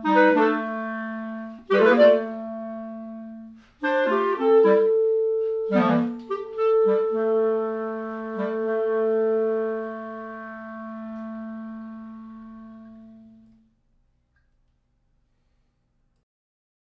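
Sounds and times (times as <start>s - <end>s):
clarinet playing: 0.0s - 13.6s.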